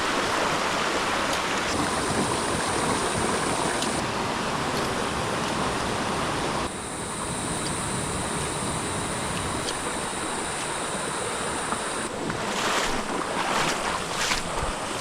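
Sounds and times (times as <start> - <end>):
water running over rocks: 0.0 - 7.8, 8.6 - 15.0.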